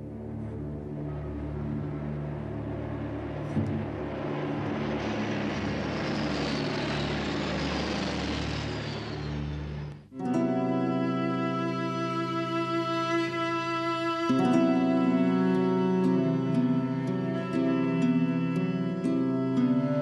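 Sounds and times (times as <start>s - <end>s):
propeller aircraft droning: 0.0s - 20.0s.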